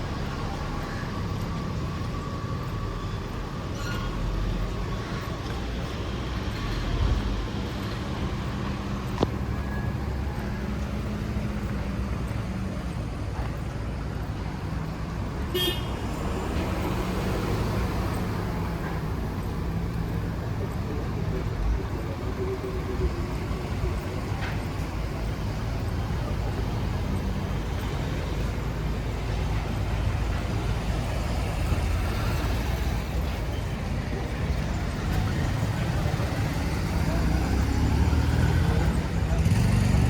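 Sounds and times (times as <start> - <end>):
rumble of passing cars: 0.0 - 40.0.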